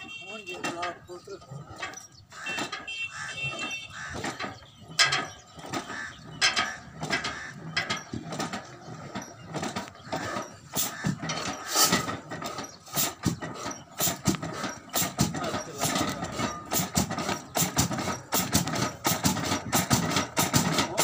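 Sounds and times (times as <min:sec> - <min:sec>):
diesel engine firing: 0:00.0 - 0:21.0.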